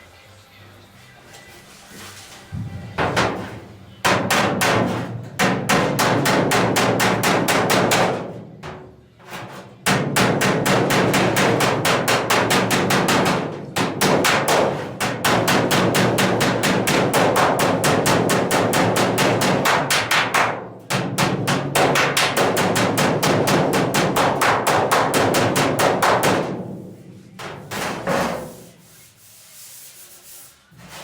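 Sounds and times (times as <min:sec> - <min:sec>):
hammer striking sheet metal: 0:02.5 - 0:29.1.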